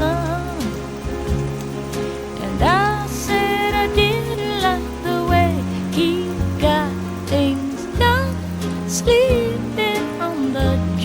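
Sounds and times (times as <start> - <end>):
person singing: 0.0 - 1.2, 2.4 - 11.0
heavy rain pouring: 0.0 - 11.0
music with held tones: 0.0 - 11.0.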